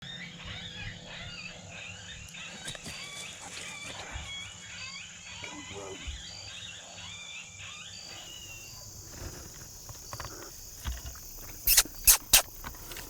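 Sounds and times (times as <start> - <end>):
warbling bird calls: 0.0 - 13.0
high drone of insects: 0.5 - 13.0.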